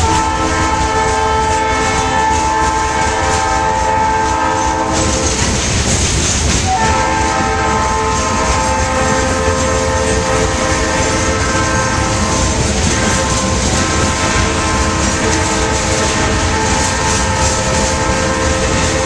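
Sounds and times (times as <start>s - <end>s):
locomotive air horn blasts: 0.0s - 5.8s, 6.6s - 19.0s
freight cars rumbling and clattering: 0.0s - 19.0s.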